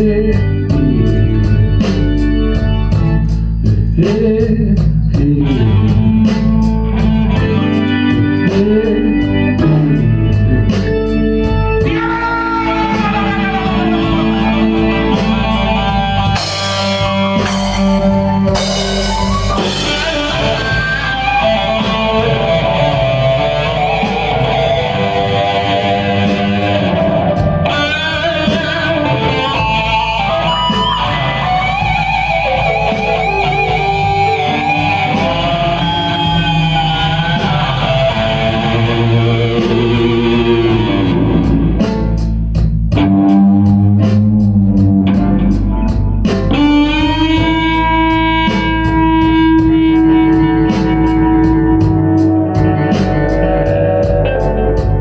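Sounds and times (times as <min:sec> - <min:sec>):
blues-rock band playing: 0:00.0 - 0:55.0
electric guitar bent notes: 0:00.0 - 0:55.0.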